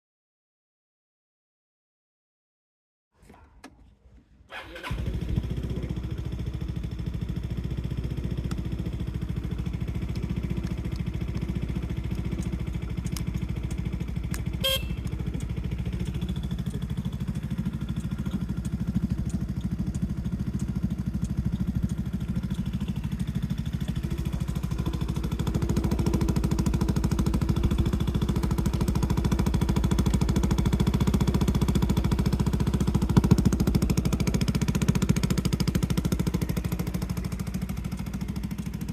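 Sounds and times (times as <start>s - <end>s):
scooter engine starting and idling: 4.4s - 38.9s.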